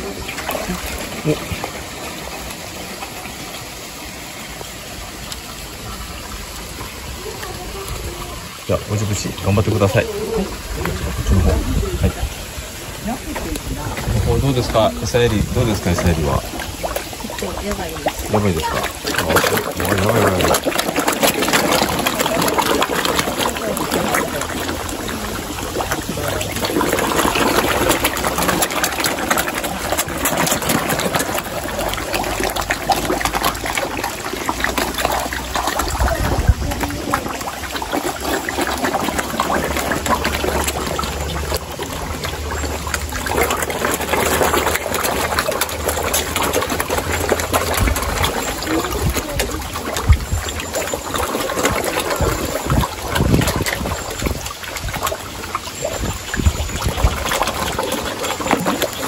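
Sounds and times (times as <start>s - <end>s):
carp splashing and slurping: 0.0s - 59.0s.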